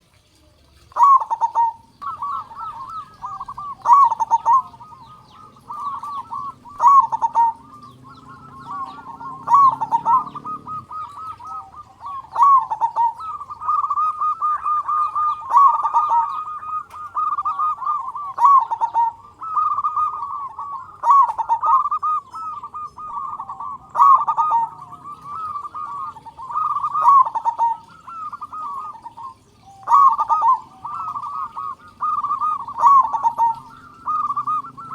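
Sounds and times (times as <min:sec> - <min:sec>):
dove cooing: 0:00.3 - 0:34.9.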